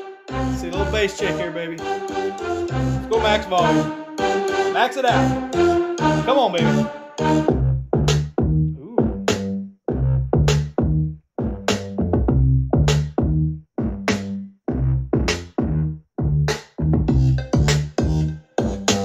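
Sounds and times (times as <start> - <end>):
electronic music with heavy bass: 0.0 - 19.0.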